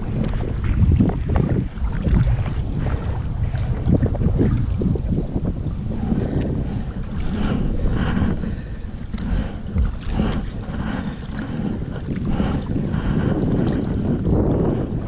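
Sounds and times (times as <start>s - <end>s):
paddle strokes splashing water: 0.0s - 15.0s
wind buffeting microphone: 0.0s - 15.0s.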